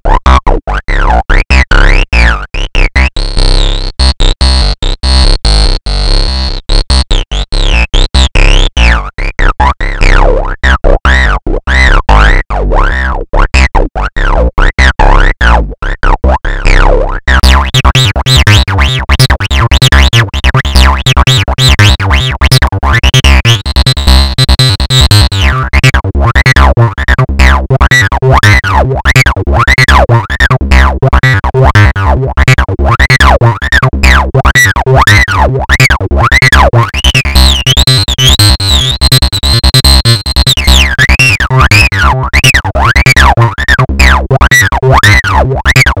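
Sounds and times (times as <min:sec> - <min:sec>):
synthesized acid bassline: 0:00.0 - 0:46.0.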